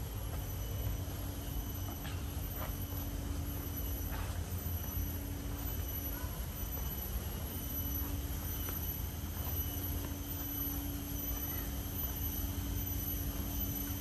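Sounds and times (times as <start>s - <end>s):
droning hum: 0.0s - 14.0s.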